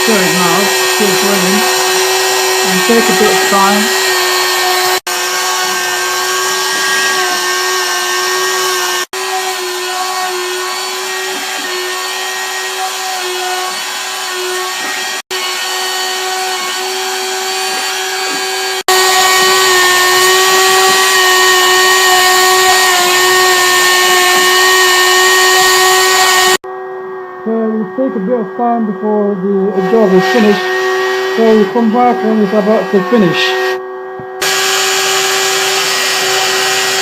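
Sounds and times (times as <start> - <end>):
machine spindle high whine: 0.0 - 21.3, 24.9 - 37.0.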